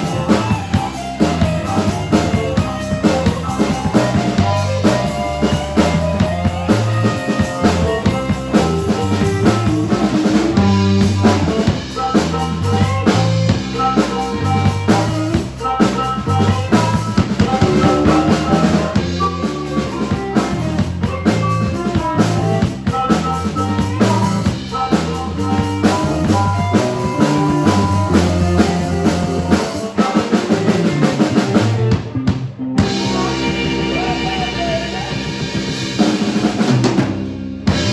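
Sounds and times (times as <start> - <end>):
bass drum and snare beat: 0.0 - 37.9
bass line: 0.0 - 37.9
live band playing: 0.0 - 37.9.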